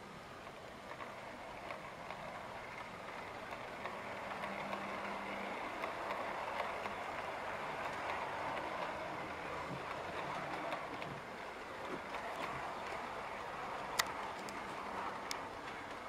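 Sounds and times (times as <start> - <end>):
model train wheels rumbling: 0.0 - 16.0
faint clicks: 0.4 - 16.0.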